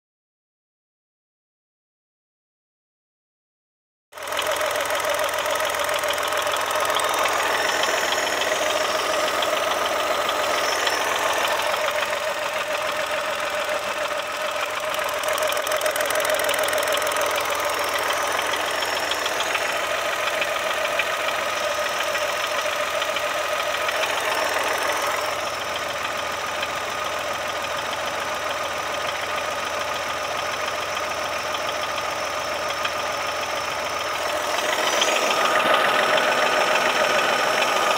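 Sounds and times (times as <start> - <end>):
car engine idling: 4.2 - 37.9
fast even ticking: 4.2 - 37.9.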